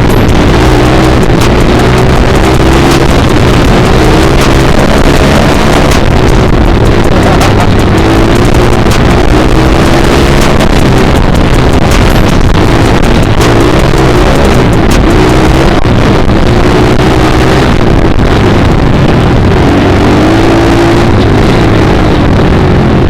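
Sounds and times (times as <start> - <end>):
dirt bike engine revving: 0.0 - 23.0
wind noise on microphone: 0.0 - 23.0.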